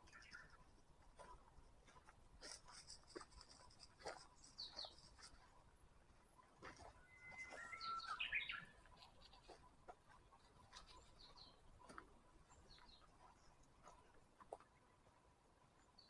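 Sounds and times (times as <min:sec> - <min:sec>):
songbirds chirping and whistling: 0:00.0 - 0:05.5, 0:06.2 - 0:13.7.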